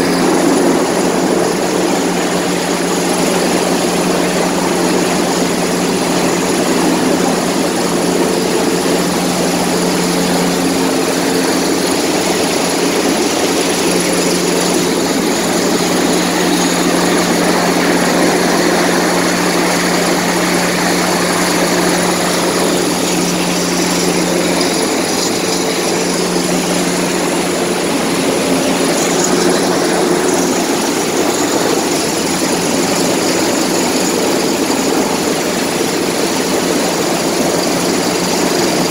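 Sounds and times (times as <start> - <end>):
helicopter rotor and turbine: 0.0 - 38.9.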